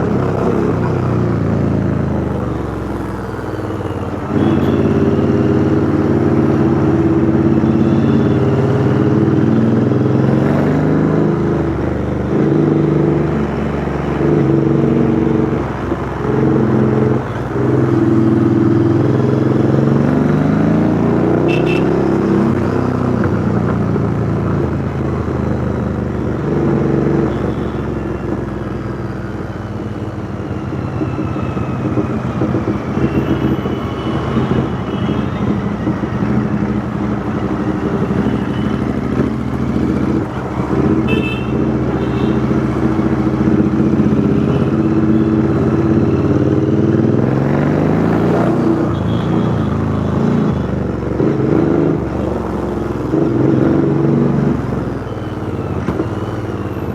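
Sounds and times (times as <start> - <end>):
motorcycle engine revving: 0.0 - 27.6, 31.2 - 56.9.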